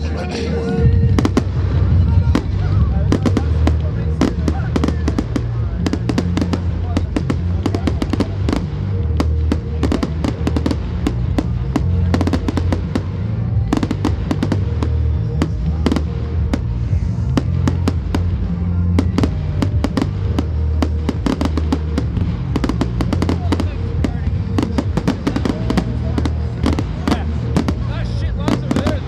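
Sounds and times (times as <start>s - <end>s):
bass-heavy music: 0.0s - 29.0s
fireworks crackling and banging: 0.0s - 29.0s.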